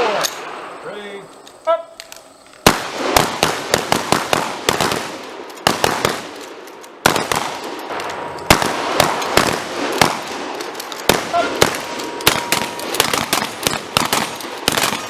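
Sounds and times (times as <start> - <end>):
shotgun blasts echoing: 2.6 - 15.0.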